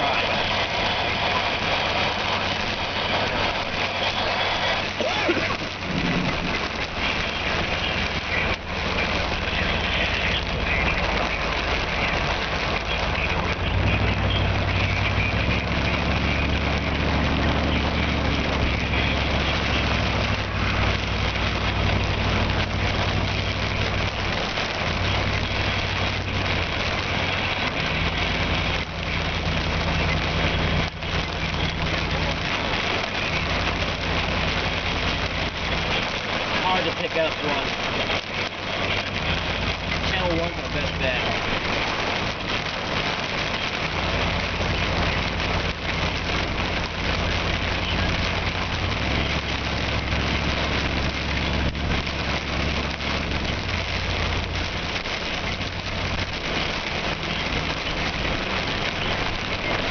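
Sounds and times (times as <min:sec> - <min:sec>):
engine low drone: 0:00.0 - 0:59.9
strong wind around a vehicle: 0:00.0 - 0:59.9.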